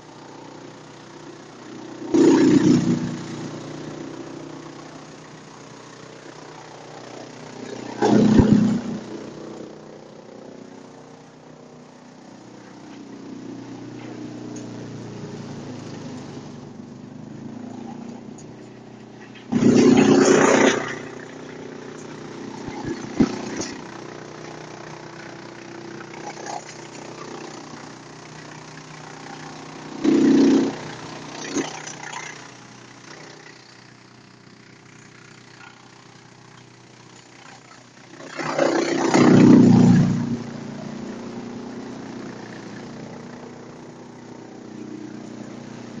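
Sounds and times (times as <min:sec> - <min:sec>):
wood chipper running: 0:00.0 - 0:46.0.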